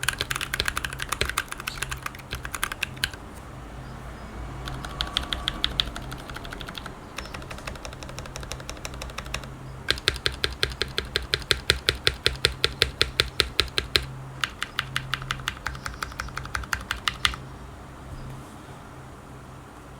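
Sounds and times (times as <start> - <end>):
mechanical keyboard typing: 0.0 - 3.2, 4.6 - 17.4.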